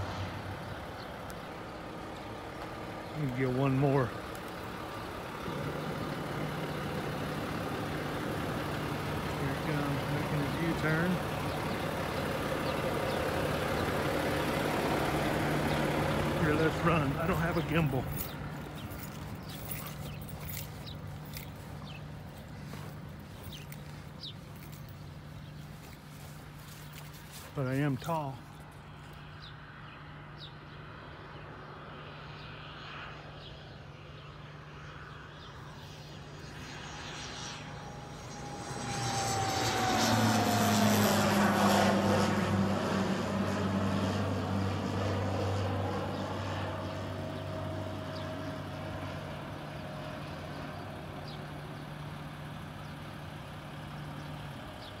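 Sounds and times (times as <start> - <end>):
airplane engine flying overhead: 0.0 - 55.0.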